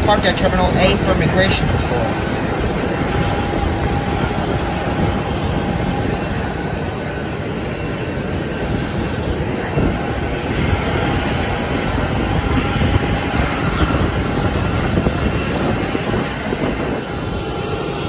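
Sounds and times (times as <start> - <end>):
faint high whine: 0.0 - 18.0
jet aircraft noise: 0.0 - 18.0.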